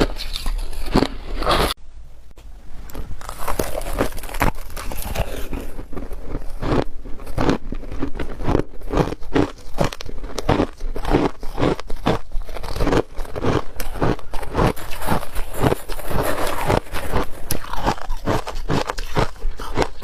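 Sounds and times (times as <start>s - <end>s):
ice being chewed: 0.0s - 1.7s, 3.2s - 20.0s.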